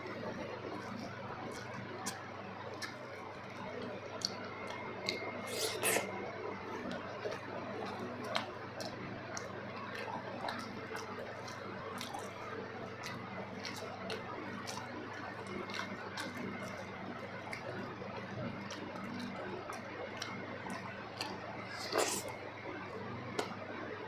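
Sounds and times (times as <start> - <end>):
person chewing soft food: 0.0 - 24.0.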